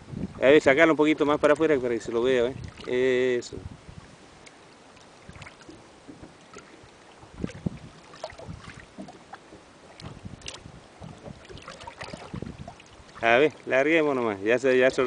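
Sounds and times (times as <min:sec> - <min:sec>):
small water splashes: 0:01.1 - 0:15.0.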